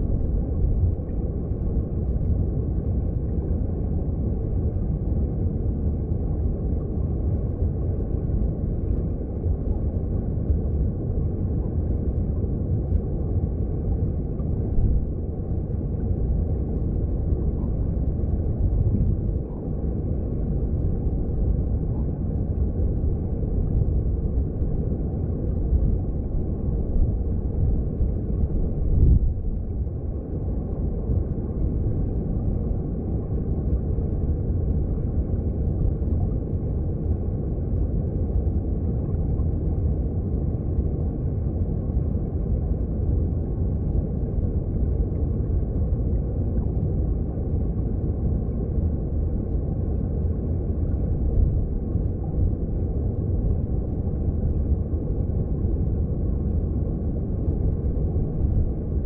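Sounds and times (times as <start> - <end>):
underwater stream rumble: 0.0 - 59.0.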